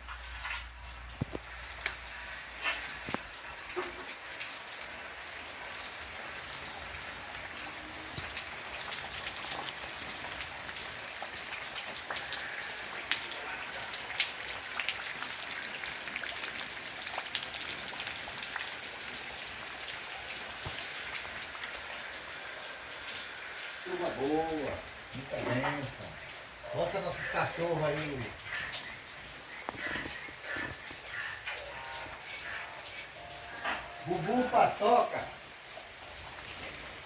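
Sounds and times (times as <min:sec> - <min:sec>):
raindrops ticking on hard surfaces: 0:00.0 - 0:37.0
steady rain hiss: 0:00.0 - 0:37.0.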